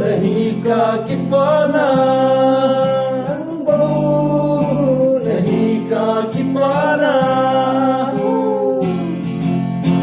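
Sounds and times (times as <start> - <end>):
men singing: 0.0 - 9.5
strummed guitar: 0.0 - 10.0.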